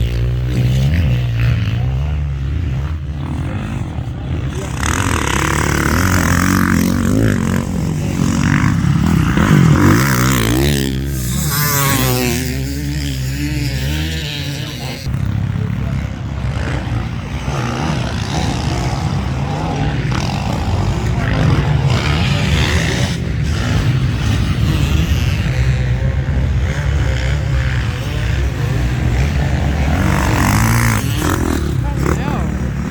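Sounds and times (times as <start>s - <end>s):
motocross bike engine revving: 0.0s - 32.9s.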